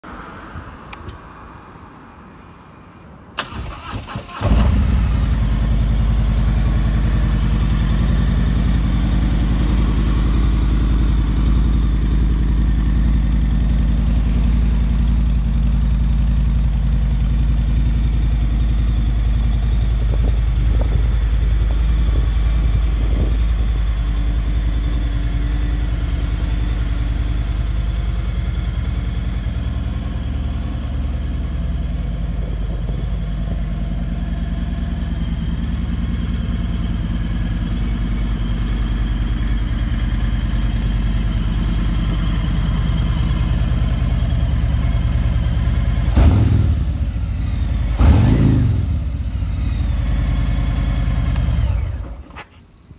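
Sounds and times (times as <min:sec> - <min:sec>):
motorcycle engine idling: 0:04.7 - 0:52.3.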